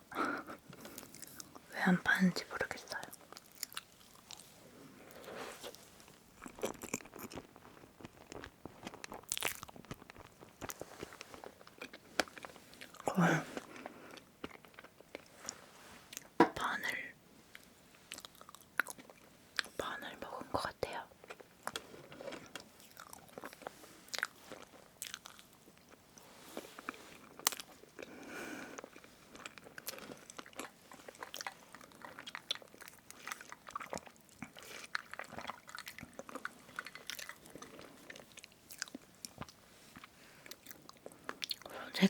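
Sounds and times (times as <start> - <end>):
close chewing and mouth sounds: 0.2 - 16.8, 17.4 - 42.0.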